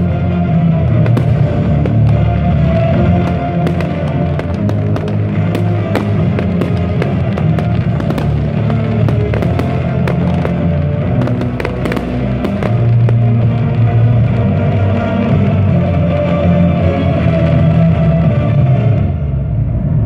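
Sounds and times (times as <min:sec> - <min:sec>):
fireworks bangs and pops: 0:00.0 - 0:18.2
loud show music: 0:00.0 - 0:19.4.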